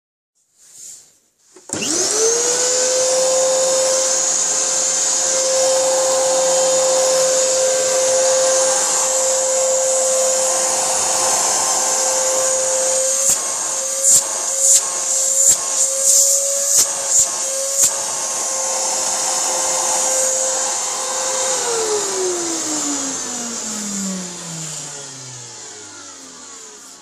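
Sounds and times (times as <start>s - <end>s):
vacuum cleaner motor whining: 1.6s - 27.0s.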